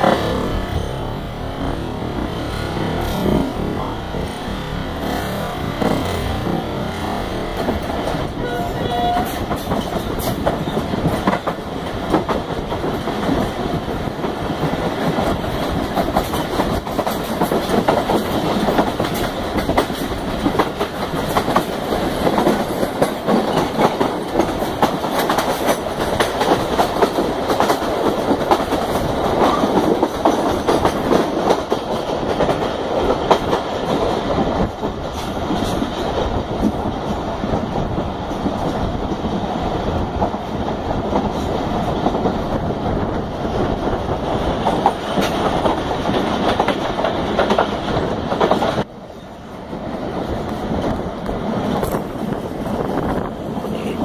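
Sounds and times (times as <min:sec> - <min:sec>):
train rumbling along track: 0:00.0 - 0:54.0
wheels clattering over rail joints: 0:00.0 - 0:54.0.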